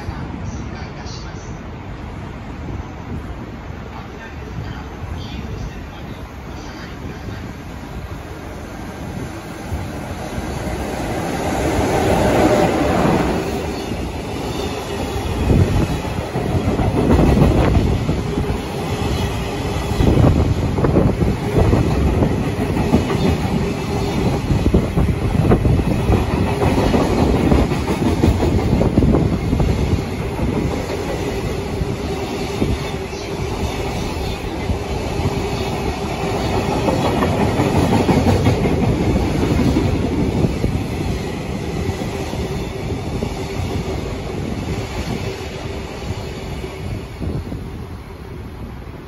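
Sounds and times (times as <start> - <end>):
freight train wheels on rails: 0.0 - 49.0.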